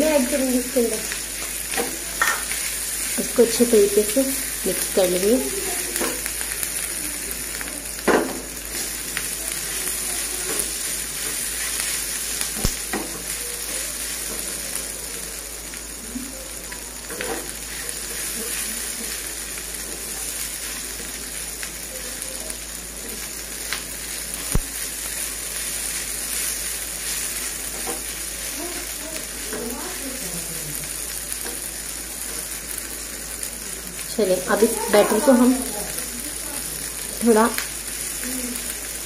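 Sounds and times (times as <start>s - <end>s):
food sizzling in frying pan: 0.0s - 39.0s.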